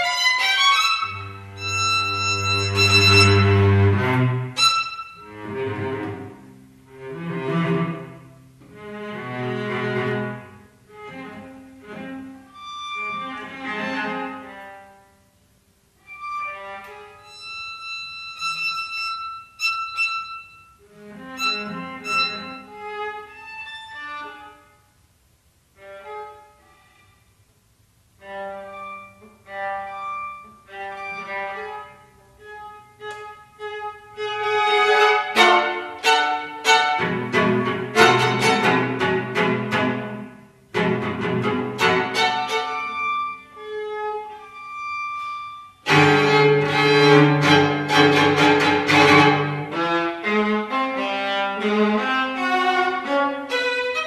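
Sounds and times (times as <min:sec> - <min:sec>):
string trio playing chamber music: 0:00.0 - 0:15.1, 0:16.1 - 0:24.6, 0:28.2 - 0:54.0.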